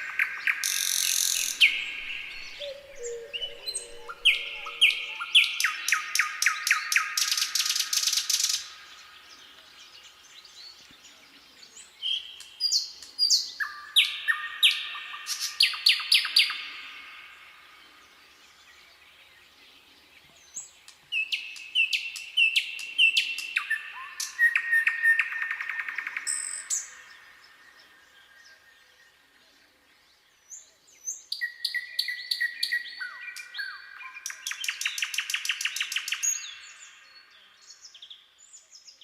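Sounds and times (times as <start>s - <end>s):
nightingale singing: 0.0s - 39.0s.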